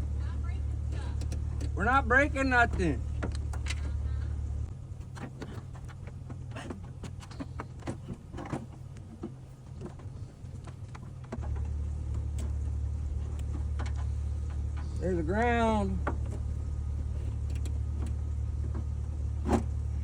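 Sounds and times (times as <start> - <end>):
car engine idling: 0.0 - 20.0
handling clicks and knocks: 0.7 - 4.0, 5.0 - 20.0.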